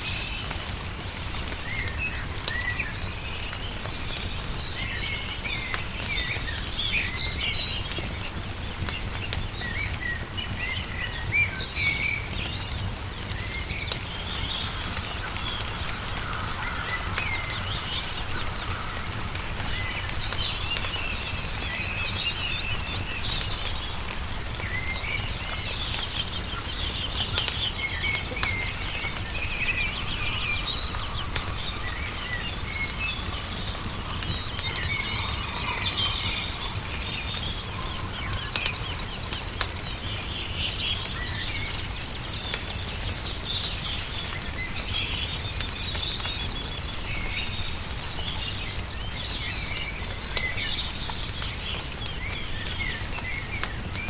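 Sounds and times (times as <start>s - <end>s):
songbirds chirping: 0.0s - 54.0s
wood fire crackling: 0.0s - 54.0s.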